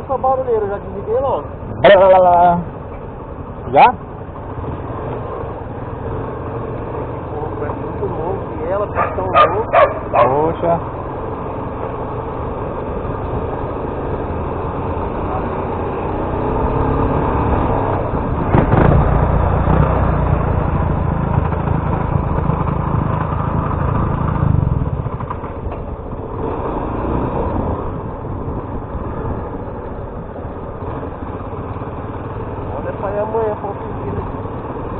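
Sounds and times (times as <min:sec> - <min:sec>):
motorcycle engine rattling: 0:00.0 - 0:26.7, 0:27.3 - 0:34.9.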